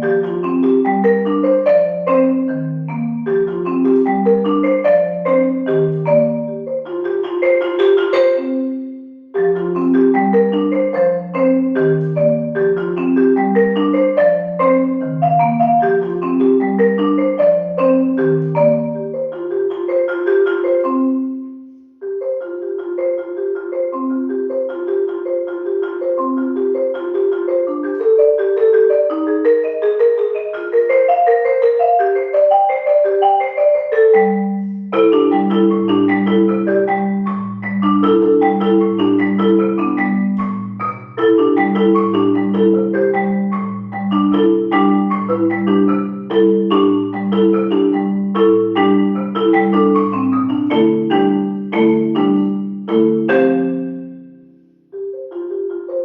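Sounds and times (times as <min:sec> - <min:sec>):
marimba ensemble music: 0:00.0 - 0:56.0.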